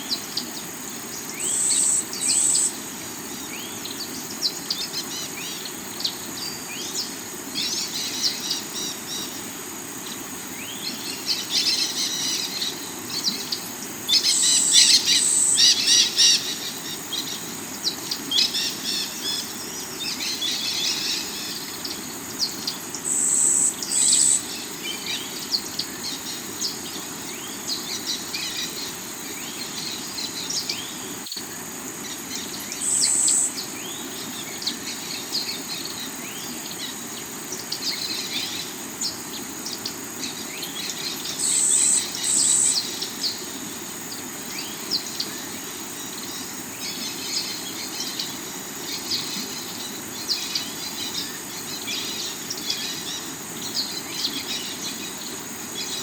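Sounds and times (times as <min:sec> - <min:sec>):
flowing river water: 0:00.0 - 0:56.0
high insect trill: 0:00.0 - 0:56.0
high-pitched insect bursts: 0:05.0 - 0:55.9.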